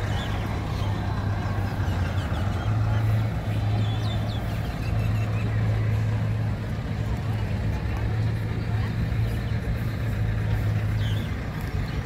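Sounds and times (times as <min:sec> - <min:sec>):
faint background voices: 0:00.0 - 0:12.0.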